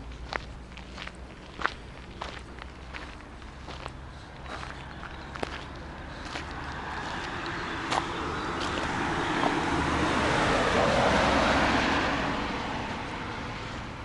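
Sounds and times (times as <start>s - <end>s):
car driving past: 1.0s - 14.0s.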